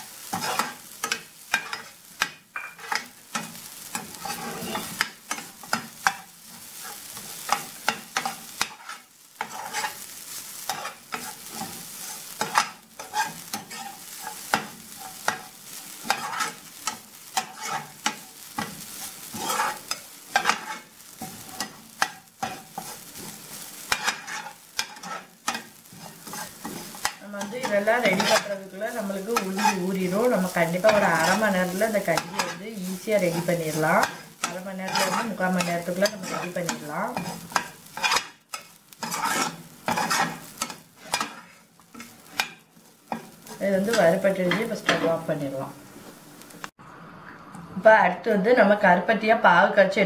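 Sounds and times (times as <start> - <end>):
spoon scraping frying pan: 0.0 - 46.2
light sizzle: 0.0 - 50.0.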